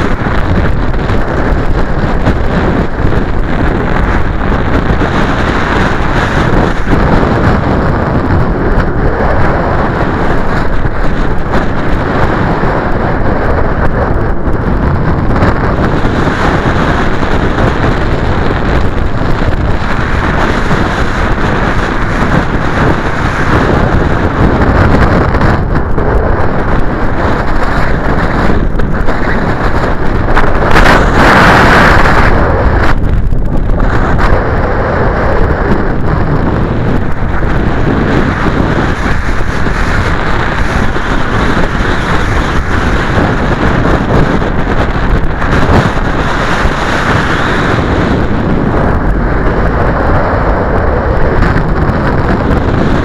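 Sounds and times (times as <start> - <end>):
strong wind on microphone: 0.0 - 53.0.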